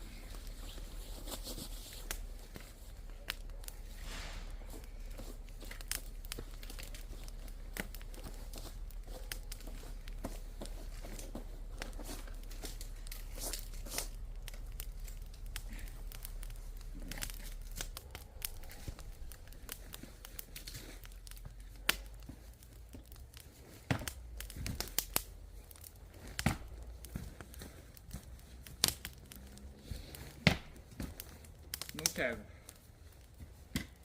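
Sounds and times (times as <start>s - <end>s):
sticks rustling and crunching: 0.0s - 34.0s
sticks snapping: 0.4s - 32.2s.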